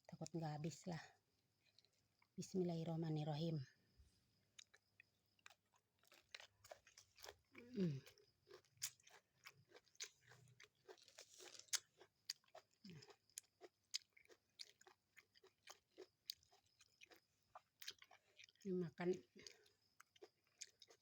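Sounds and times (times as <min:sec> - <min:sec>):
person chewing and crunching food: 0:01.4 - 0:02.4, 0:04.4 - 0:21.0.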